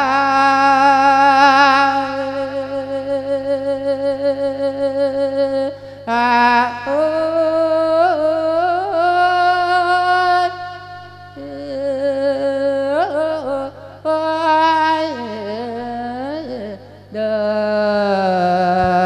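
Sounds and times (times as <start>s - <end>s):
elderly man singing with vibrato: 0.0s - 19.0s.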